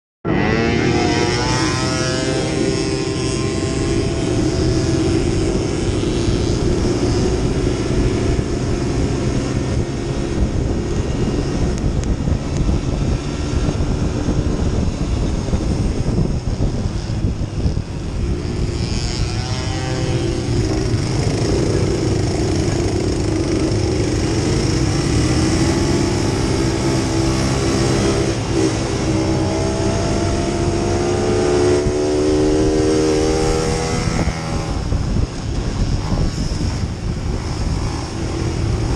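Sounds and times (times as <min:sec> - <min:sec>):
quad engine accelerating: 0:00.2 - 0:38.9.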